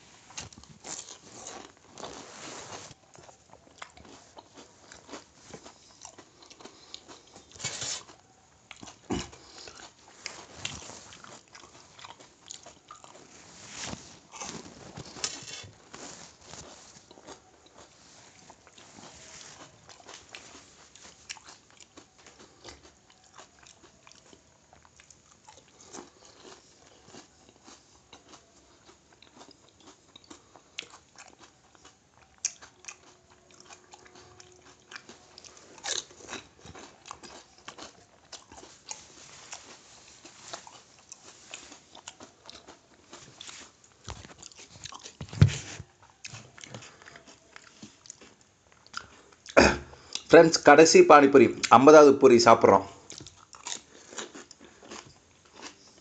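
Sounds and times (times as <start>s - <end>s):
wet chewing: 0.2s - 50.4s, 53.0s - 56.0s.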